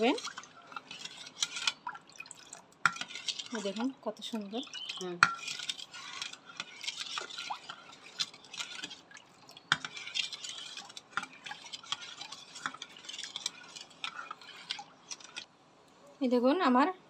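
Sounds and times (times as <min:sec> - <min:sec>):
liquid swishing: 0:00.0 - 0:15.5
spoon scraping a metal bowl: 0:00.0 - 0:15.5.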